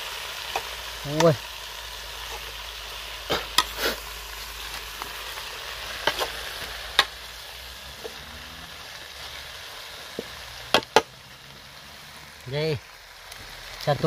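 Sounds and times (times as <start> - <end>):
greens hissing in hot pot: 0.0 - 14.0.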